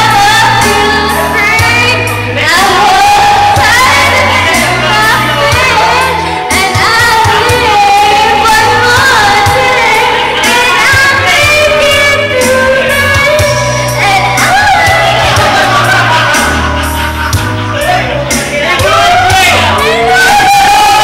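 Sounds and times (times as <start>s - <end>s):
woman singing pop ballad: 0.0s - 17.4s, 18.3s - 21.0s
loud backing track: 0.0s - 21.0s.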